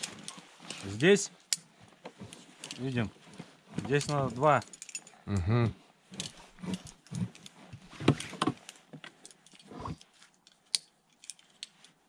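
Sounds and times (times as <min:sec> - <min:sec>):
carabiners clicking and clinking: 0:00.0 - 0:05.3, 0:06.1 - 0:12.0.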